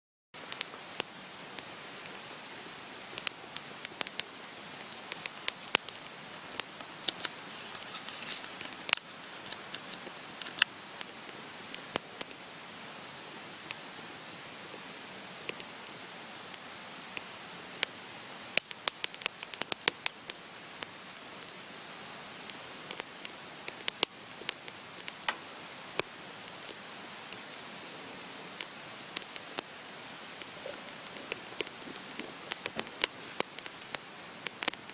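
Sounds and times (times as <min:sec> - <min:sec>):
campfire pops and snaps: 0:00.4 - 0:12.4, 0:15.4 - 0:34.9
soft rush of burning: 0:00.4 - 0:34.9.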